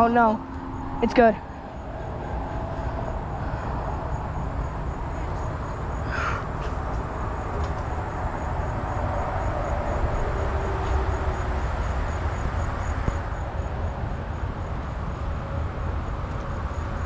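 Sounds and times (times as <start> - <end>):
constant low rumble: 0.0 - 17.0
insects chirping: 0.0 - 17.0.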